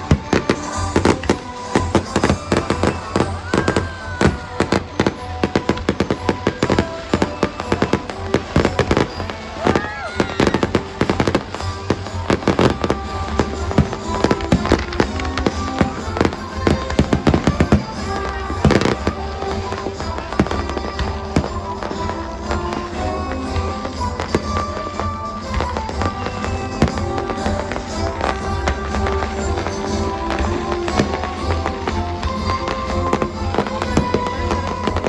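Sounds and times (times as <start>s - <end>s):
fireworks bangs and crackles: 0.0s - 35.0s
music playing: 0.0s - 35.0s.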